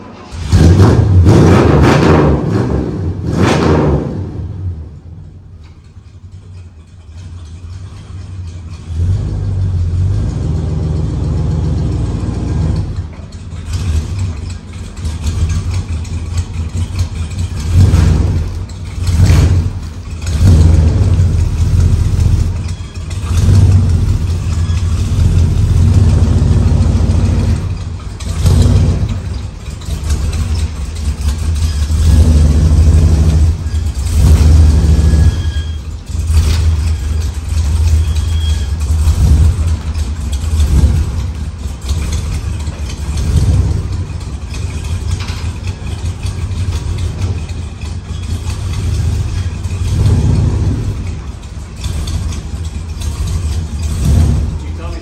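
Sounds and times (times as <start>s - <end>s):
car engine revving: 0.0s - 5.6s, 6.3s - 55.0s.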